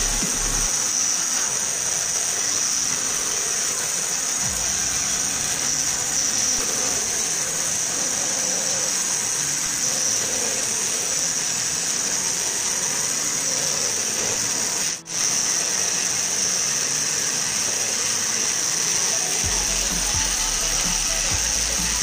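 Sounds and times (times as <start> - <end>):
bit cutting plastic hiss: 0.0 - 22.0
cnc router spindle whine: 0.0 - 22.0.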